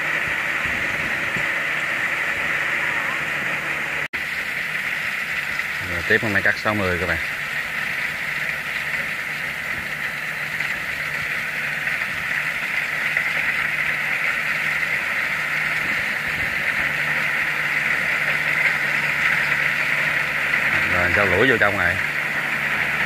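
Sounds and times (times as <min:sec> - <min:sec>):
combine engine hum: 0:00.0 - 0:23.0
high machine whine: 0:00.0 - 0:23.0.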